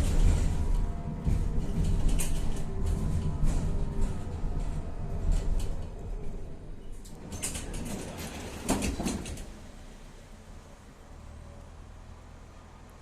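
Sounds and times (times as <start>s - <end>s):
tram motor hum: 0.0s - 13.0s
tram rumbling: 0.0s - 13.0s.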